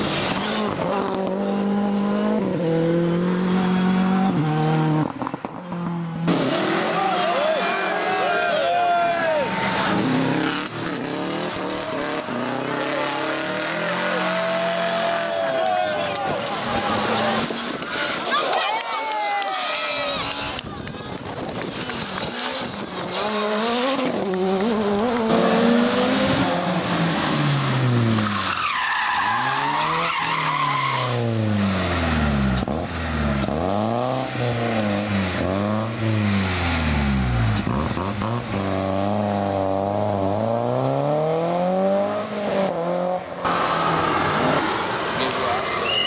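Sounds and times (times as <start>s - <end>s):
rally car engines revving: 0.0s - 18.3s, 21.3s - 46.0s.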